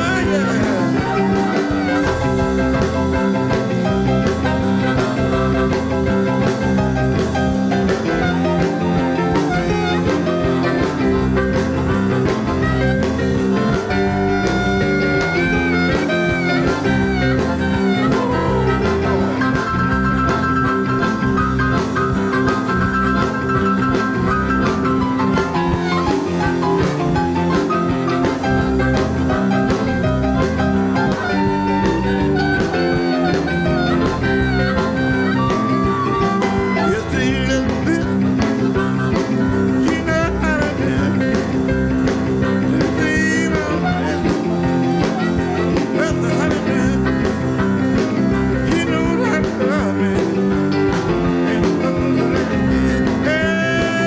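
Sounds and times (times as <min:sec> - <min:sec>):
bass guitar: 0:00.0 - 0:54.0
drums: 0:00.0 - 0:54.0
electric guitar: 0:00.0 - 0:54.0.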